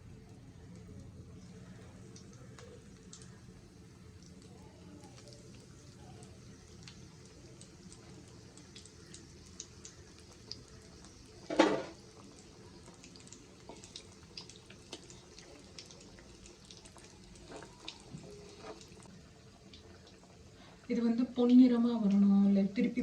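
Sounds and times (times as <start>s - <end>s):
food deep-frying in oil: 0.0s - 23.0s
small oil crackles: 0.0s - 23.0s.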